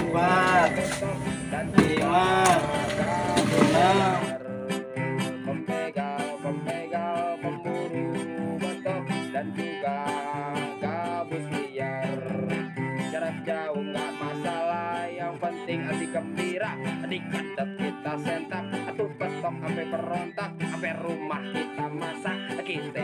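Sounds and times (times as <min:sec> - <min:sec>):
plucked guitar tune: 0:00.0 - 0:23.0.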